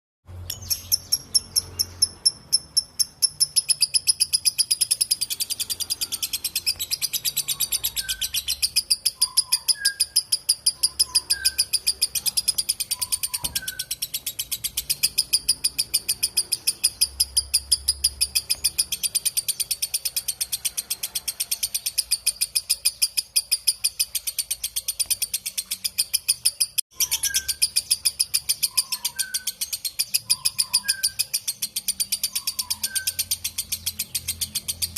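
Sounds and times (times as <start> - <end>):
lovebird shrill chatter: 0.5 - 34.6.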